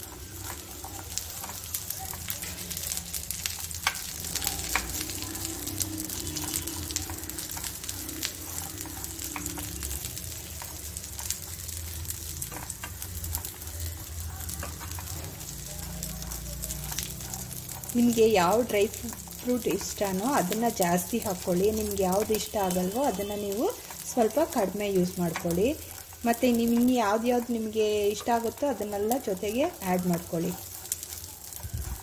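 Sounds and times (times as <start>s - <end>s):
spatula clicking and scraping: 0.0s - 29.3s
nuts sizzling in a pan: 0.0s - 32.0s.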